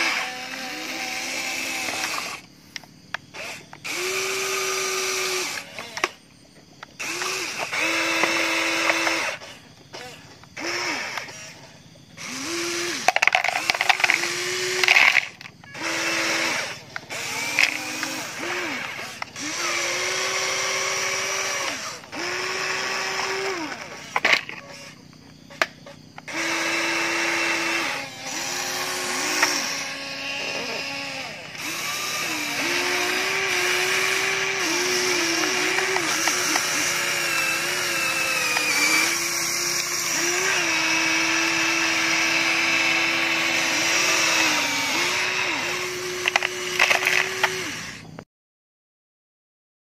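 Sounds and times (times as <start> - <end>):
toy excavator electric motors whining: 0.0 - 48.2.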